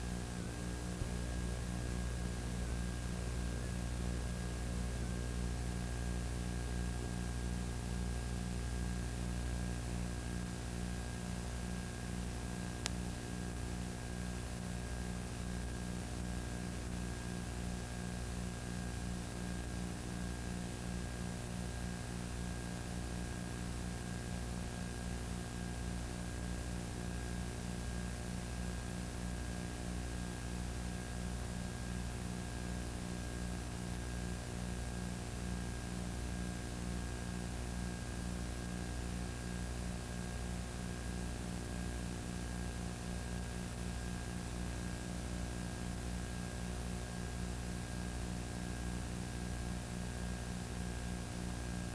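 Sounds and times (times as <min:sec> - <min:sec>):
electrical hum with hiss: 0:00.0 - 0:51.9.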